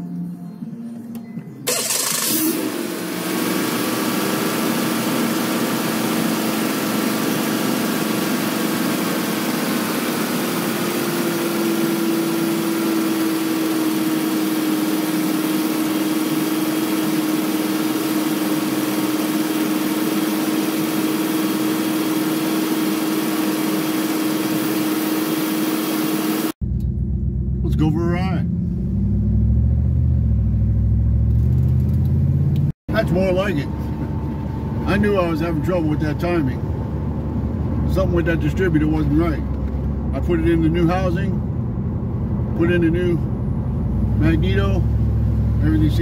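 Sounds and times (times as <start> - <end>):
car engine idling: 1.6 - 46.0.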